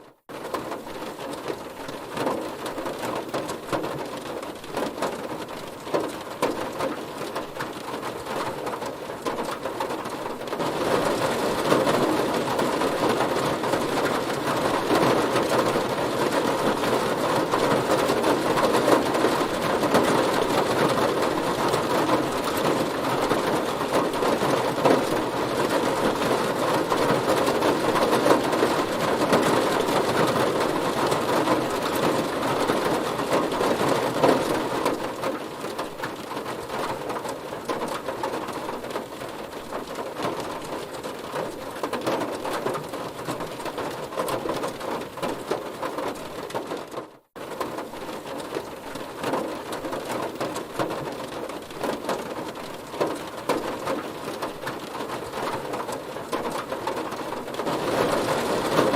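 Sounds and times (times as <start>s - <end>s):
heavy rain on a car roof: 0.0s - 58.9s.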